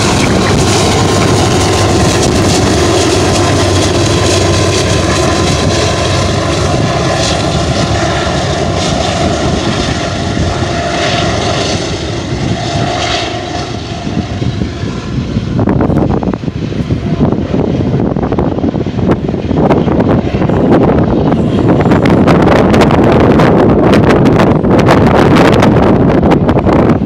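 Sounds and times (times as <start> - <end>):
diesel locomotive drone: 0.0 - 27.0.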